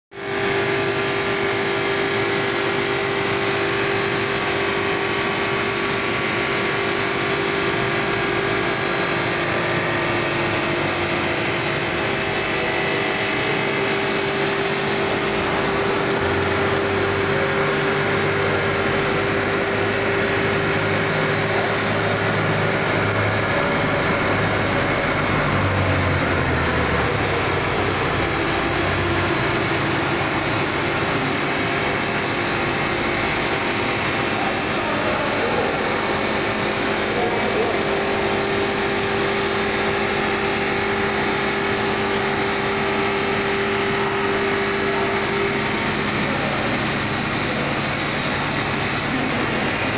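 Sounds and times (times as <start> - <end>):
steady motor tone: 0.1 - 49.9.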